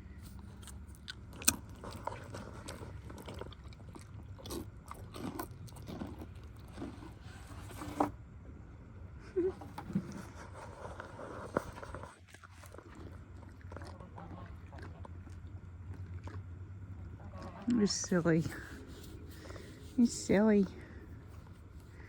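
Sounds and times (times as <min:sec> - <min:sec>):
donkey crunching rice cracker: 0:00.1 - 0:08.2, 0:09.6 - 0:22.0.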